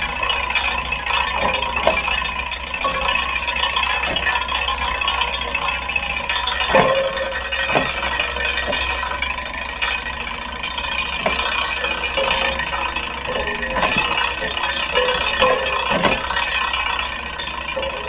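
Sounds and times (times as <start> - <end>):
bicycle rattling: 0.0 - 18.0.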